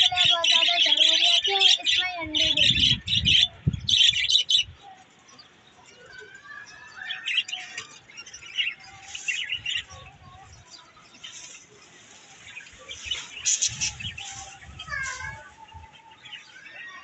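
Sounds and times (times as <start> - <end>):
cage birds chirping: 0.0 - 17.0
grass rustling against wire cage: 0.0 - 17.0.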